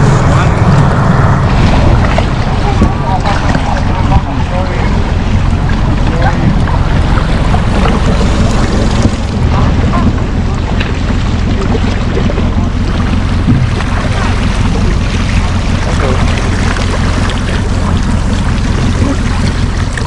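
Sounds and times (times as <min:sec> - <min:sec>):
outboard motor running: 0:00.0 - 0:20.0
wind rushing over microphone: 0:00.0 - 0:20.0.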